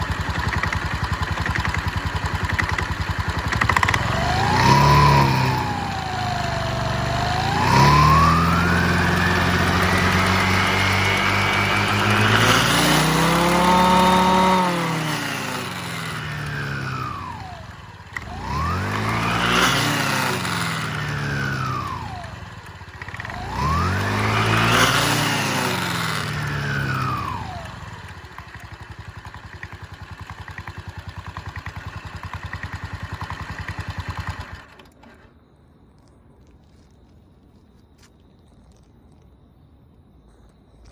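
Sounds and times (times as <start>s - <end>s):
scooter engine revving: 0.0s - 35.3s.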